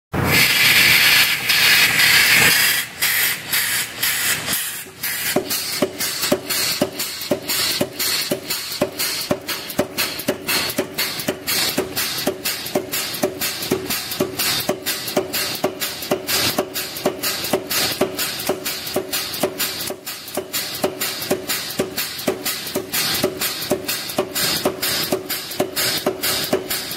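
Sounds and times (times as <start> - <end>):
air hammer striking steel bar: 0.2 - 26.9
air hiss burst: 0.2 - 26.9.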